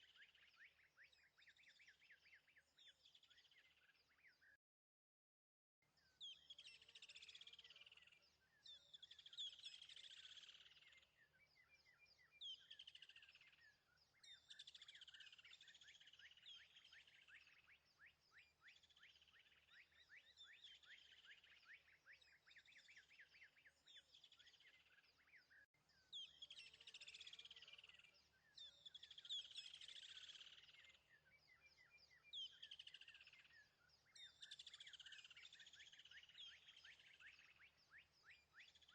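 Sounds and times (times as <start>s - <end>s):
faint birdsong with trills: 0.0s - 4.6s, 5.8s - 38.9s.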